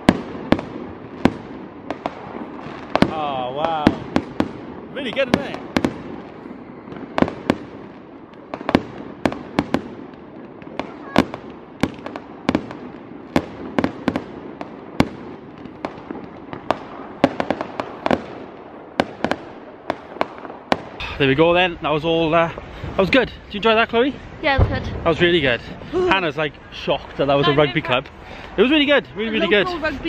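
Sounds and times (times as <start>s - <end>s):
fireworks bangs: 0.0s - 30.0s.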